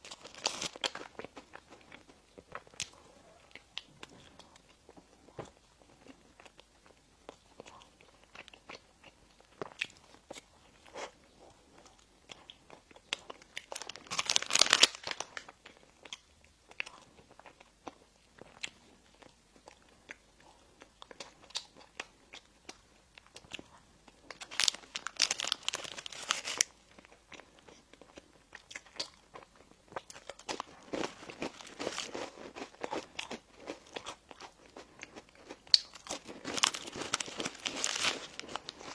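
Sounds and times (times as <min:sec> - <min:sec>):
chewing bread: 0:00.0 - 0:38.9.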